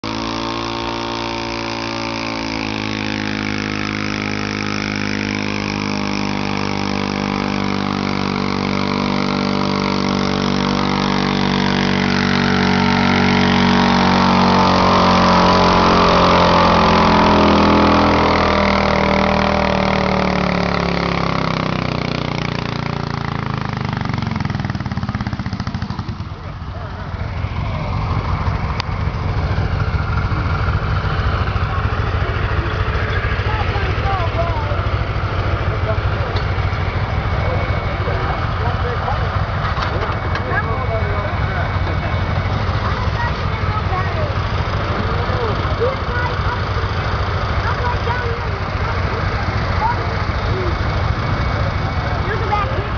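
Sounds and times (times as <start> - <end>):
tractor engine running hard: 0.0 - 52.9.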